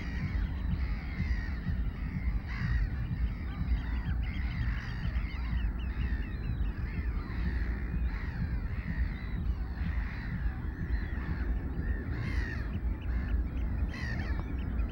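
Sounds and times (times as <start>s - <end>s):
gulls calling: 0.0s - 14.9s
steady low rumble: 0.0s - 14.9s.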